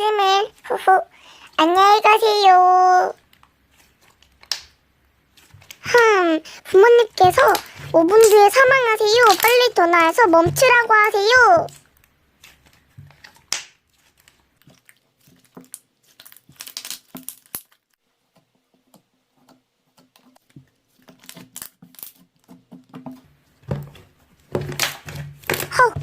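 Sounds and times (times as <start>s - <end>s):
rustling and crinkling: 0.0s - 26.0s.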